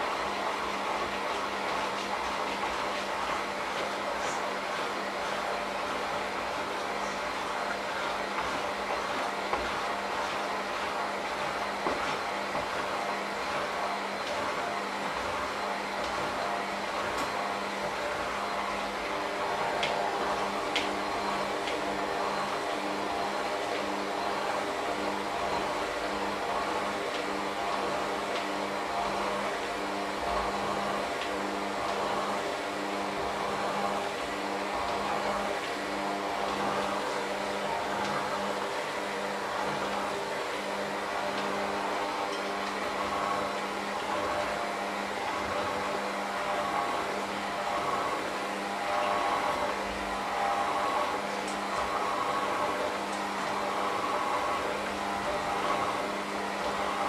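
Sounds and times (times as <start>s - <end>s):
electric hand mixer running: 0.0s - 57.0s.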